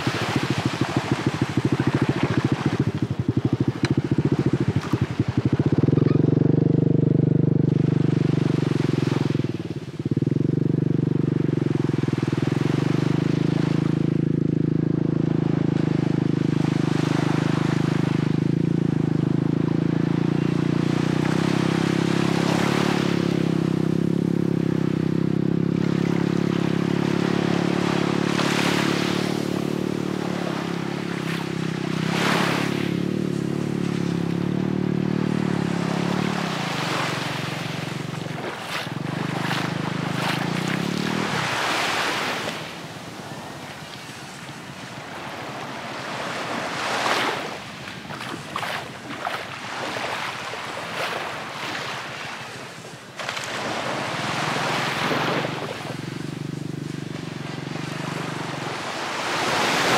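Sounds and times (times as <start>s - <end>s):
small waves washing onto sand: 0.0s - 19.3s, 20.0s - 23.9s, 24.7s - 59.9s
engine droning: 0.0s - 59.9s.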